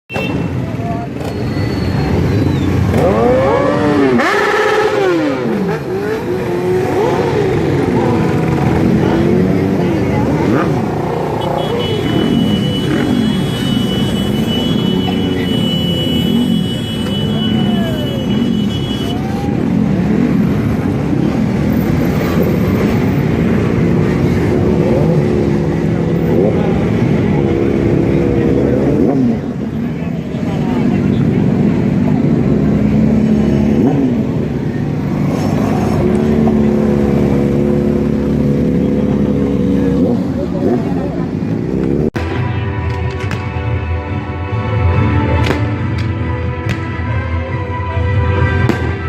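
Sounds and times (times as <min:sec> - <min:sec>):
motorcycle engines revving: 0:00.1 - 0:49.0.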